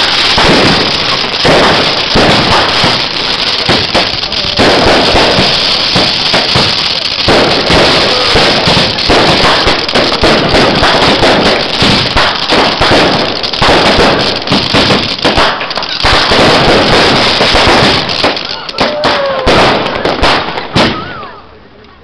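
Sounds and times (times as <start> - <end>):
fireworks barrage: 0.0 - 21.5.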